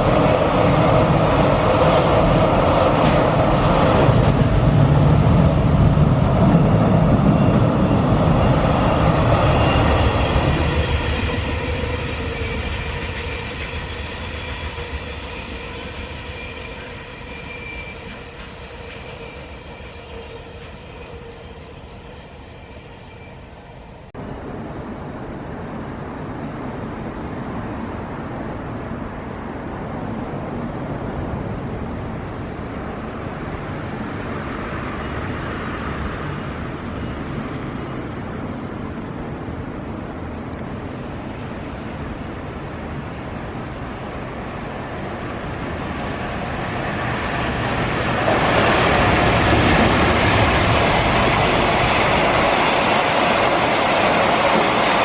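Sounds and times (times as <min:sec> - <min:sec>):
freight train rumble: 0:00.0 - 0:55.0.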